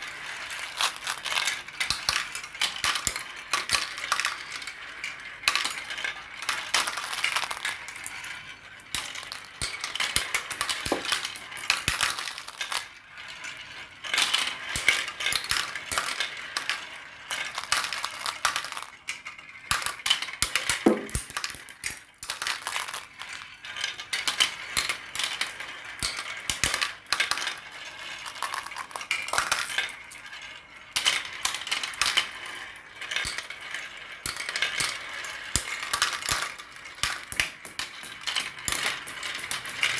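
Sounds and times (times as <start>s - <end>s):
marbles clattering down marble run: 0.0s - 39.9s.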